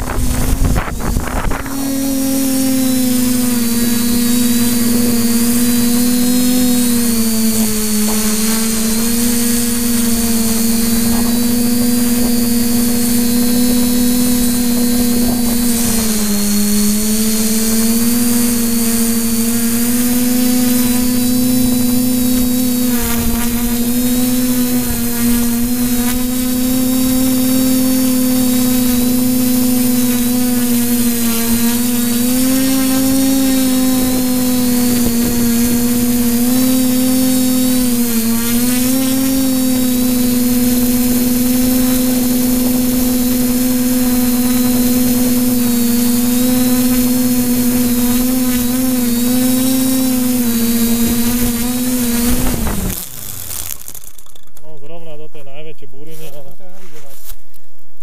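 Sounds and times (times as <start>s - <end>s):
drone motors and propellers buzzing: 0.0s - 54.6s.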